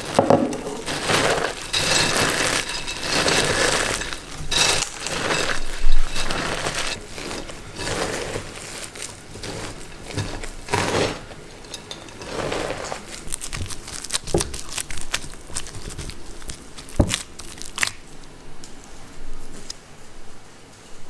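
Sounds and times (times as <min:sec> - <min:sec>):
crinkling and rustling handling: 0:00.0 - 0:18.8.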